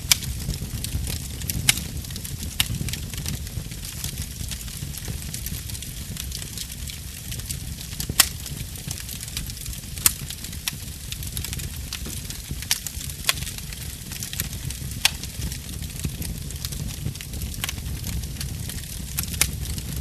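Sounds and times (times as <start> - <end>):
low rumble of flames: 0.0 - 20.0
sharp pops of fire: 0.0 - 20.0
wood fire crackling: 0.0 - 20.0.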